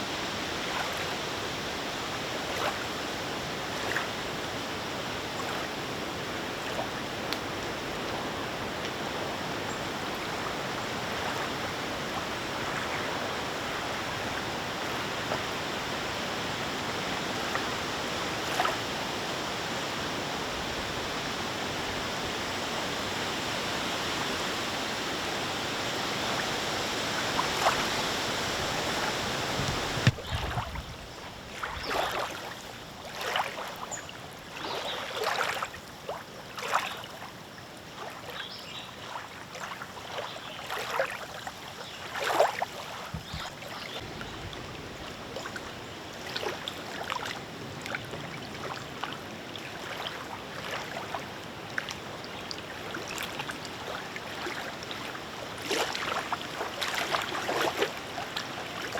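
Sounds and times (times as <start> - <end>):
small waves lapping: 0.0 - 58.9
water splashes: 0.0 - 58.9.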